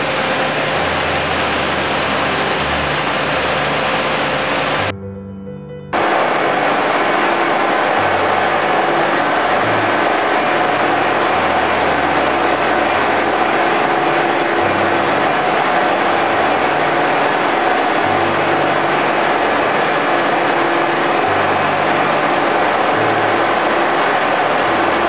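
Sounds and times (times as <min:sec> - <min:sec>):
boat engines droning: 0:00.0 - 0:04.9, 0:06.0 - 0:25.0.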